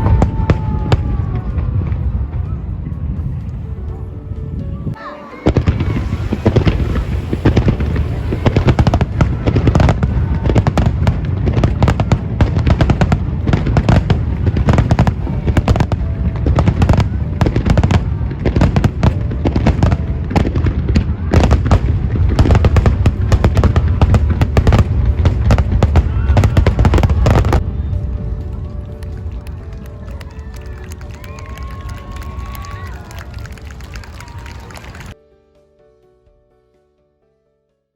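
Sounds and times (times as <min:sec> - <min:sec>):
fireworks booming and crackling: 0:00.0 - 0:04.6, 0:05.3 - 0:35.2.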